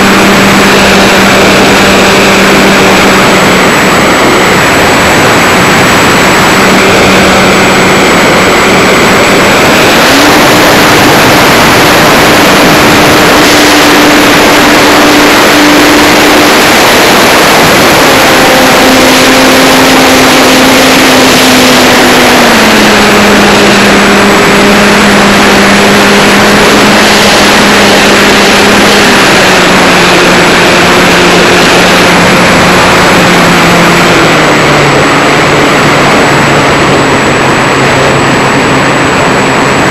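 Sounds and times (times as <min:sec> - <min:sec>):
electric motor and propeller hum: 0:00.0 - 0:39.9
wind rush: 0:00.0 - 0:39.9.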